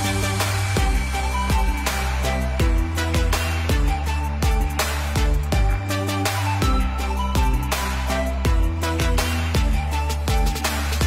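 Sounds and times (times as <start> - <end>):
bass kick drum: 0.0 - 11.0
fast hi-hats: 0.0 - 11.0.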